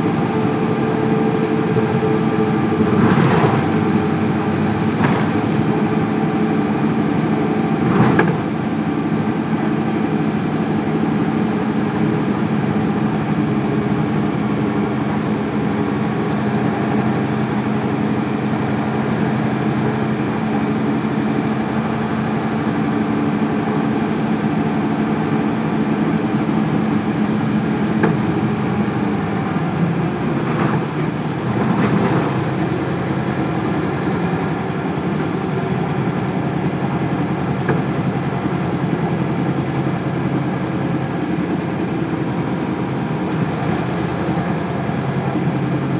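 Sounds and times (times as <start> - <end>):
diesel bus engine running: 0.0 - 45.9.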